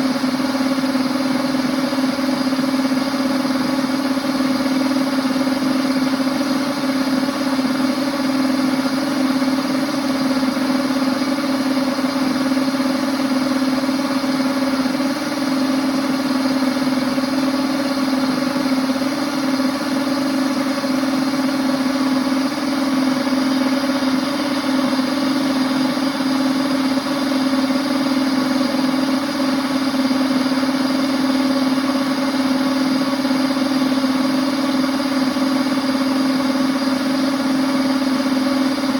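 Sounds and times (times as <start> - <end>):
blender motor whining: 0.0 - 38.9.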